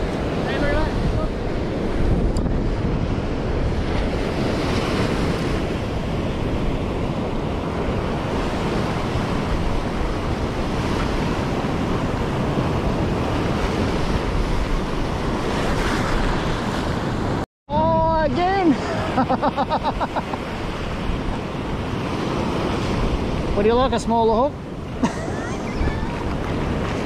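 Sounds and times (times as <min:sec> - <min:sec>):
wind buffeting microphone: 0:00.0 - 0:19.3, 0:19.9 - 0:27.0
ocean surf breaking: 0:00.0 - 0:27.0.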